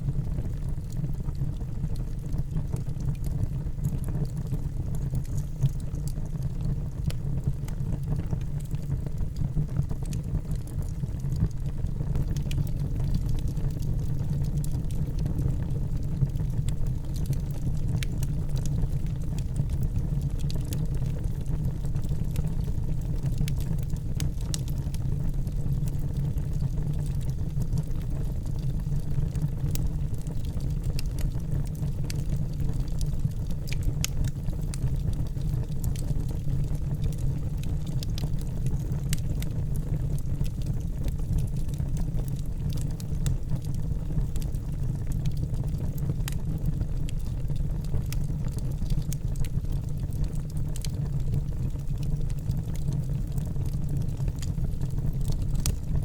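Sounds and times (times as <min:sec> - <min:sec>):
fire rumbling in a fireplace: 0:00.0 - 0:56.0
sharp fire crackles: 0:00.1 - 0:56.0.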